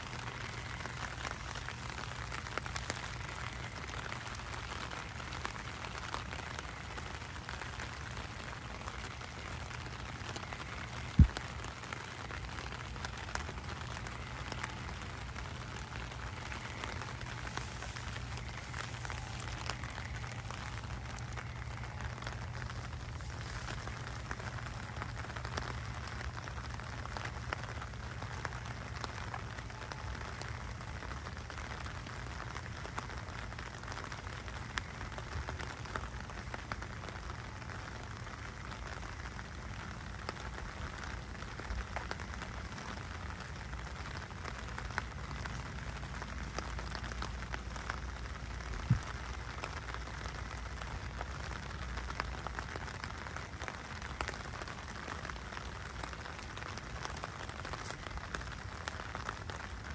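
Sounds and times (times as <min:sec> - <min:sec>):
rain on wet street: 0:00.0 - 0:59.9.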